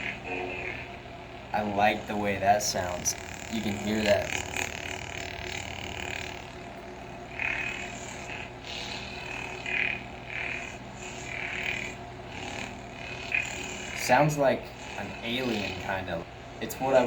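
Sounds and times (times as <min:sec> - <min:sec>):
lightsaber hum: 0:00.0 - 0:17.0.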